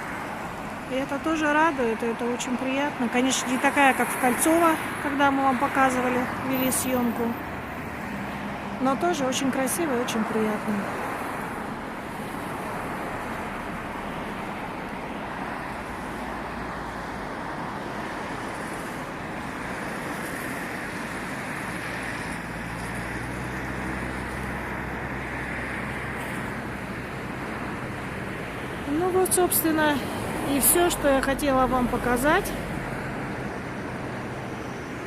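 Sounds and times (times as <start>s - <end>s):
road traffic noise: 0.0s - 35.0s
vehicle engine hum: 0.0s - 35.0s.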